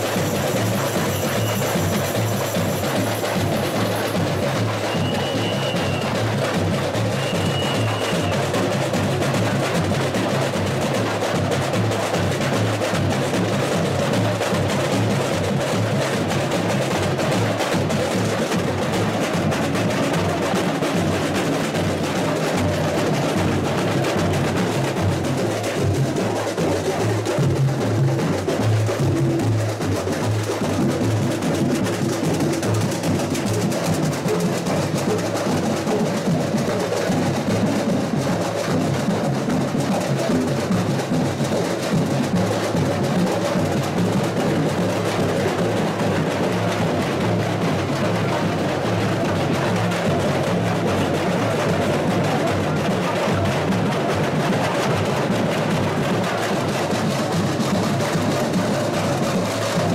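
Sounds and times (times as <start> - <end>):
snare-like drums struck with sticks: 0.0 - 59.9.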